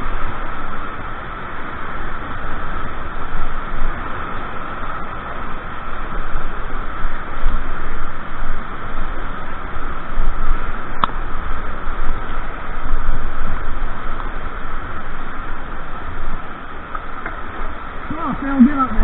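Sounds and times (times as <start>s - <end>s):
water buffeting the microphone: 0.0s - 19.0s
white water rushing through weir: 0.0s - 19.0s.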